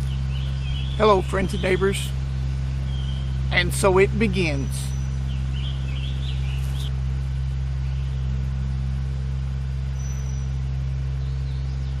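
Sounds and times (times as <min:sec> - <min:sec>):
birds chirping faintly: 0:00.0 - 0:12.0
engine idling: 0:00.0 - 0:12.0.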